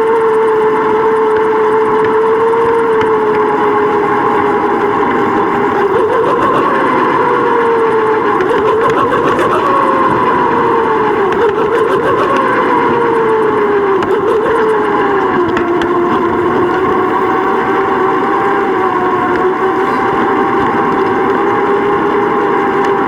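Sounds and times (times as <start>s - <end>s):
droning whine: 0.0s - 23.0s
wind and trail noise: 0.0s - 23.0s.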